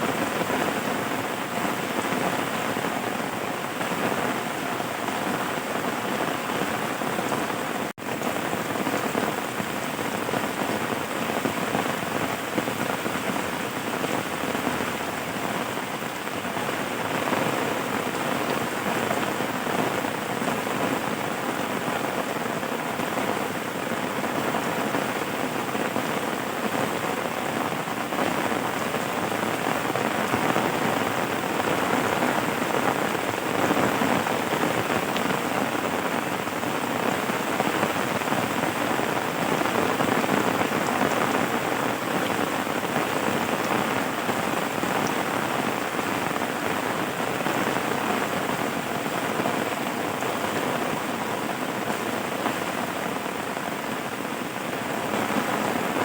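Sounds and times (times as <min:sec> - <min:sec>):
rain falling on surfaces: 0:00.0 - 0:56.0.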